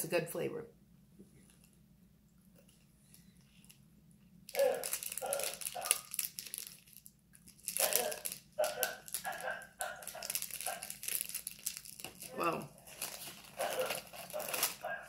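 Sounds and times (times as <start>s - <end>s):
plastic wrapper crinkling: 2.6s - 15.0s.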